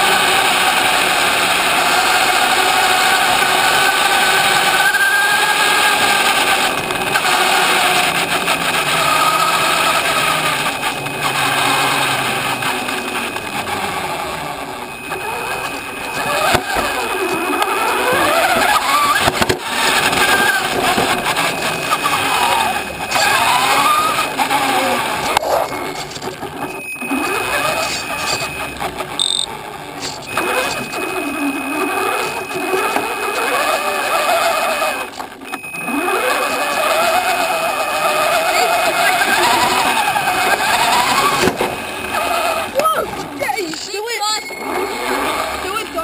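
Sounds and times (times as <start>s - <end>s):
rc car motor whine: 0.0s - 46.0s.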